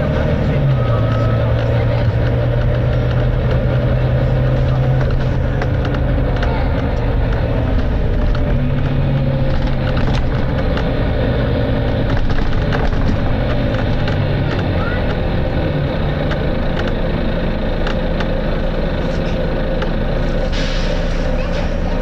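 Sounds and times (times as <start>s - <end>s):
bus body rattling: 0.0s - 22.0s
bus diesel engine drone: 0.0s - 22.0s.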